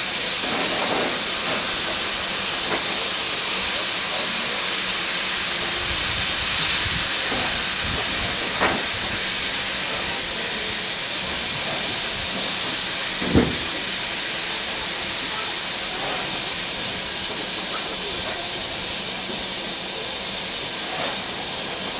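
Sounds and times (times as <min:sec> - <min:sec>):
steam locomotive hissing: 0:00.0 - 0:21.9.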